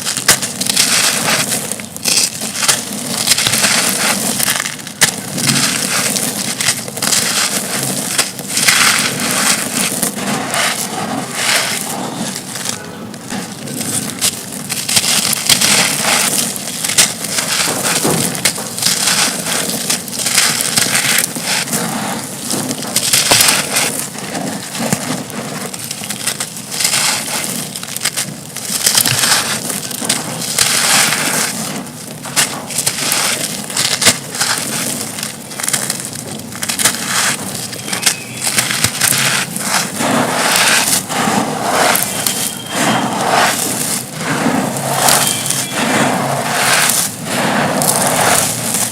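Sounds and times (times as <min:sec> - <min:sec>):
concrete chunks crunching: 0:00.0 - 0:48.9.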